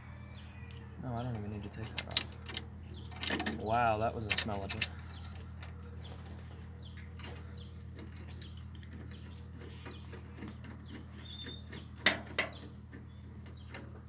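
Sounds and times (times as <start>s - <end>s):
bird chirp: 0.0s - 14.0s
steady low hum: 0.0s - 14.0s
clicks and knocks of engine work: 0.7s - 14.0s.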